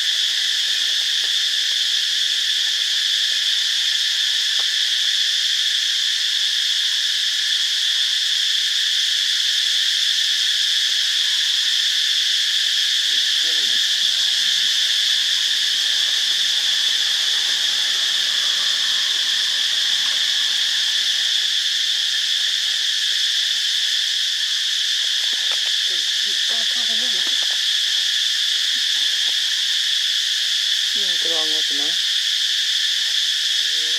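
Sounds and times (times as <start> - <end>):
insects chorus shrill drone: 0.0 - 33.9.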